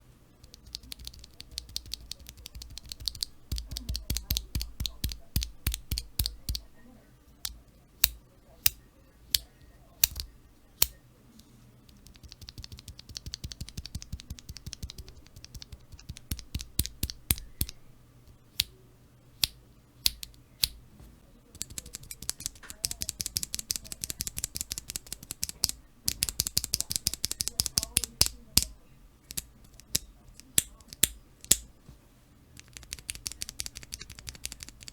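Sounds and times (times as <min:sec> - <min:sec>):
key switches clicking: 0:00.4 - 0:06.8, 0:07.4 - 0:11.0, 0:11.9 - 0:18.8, 0:19.4 - 0:20.8, 0:21.5 - 0:31.7, 0:32.6 - 0:34.9.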